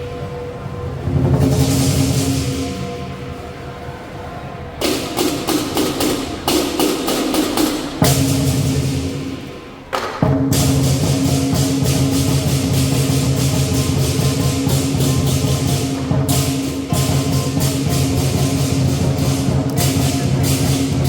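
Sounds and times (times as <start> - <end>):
big drum beating: 0.0 - 3.6, 4.8 - 21.0
cymbals clashing: 0.0 - 21.0.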